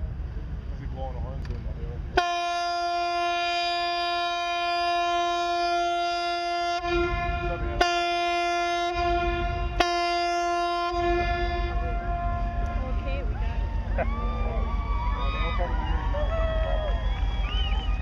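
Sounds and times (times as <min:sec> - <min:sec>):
ship's horn blast: 0:02.1 - 0:18.0.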